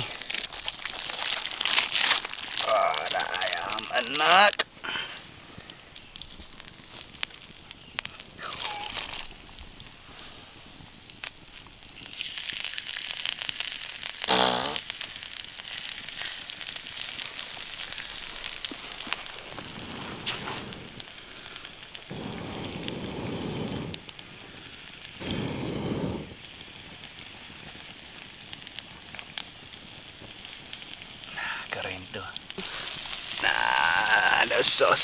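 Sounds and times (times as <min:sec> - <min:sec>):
chicken sizzling on hot stone: 0:00.0 - 0:35.0.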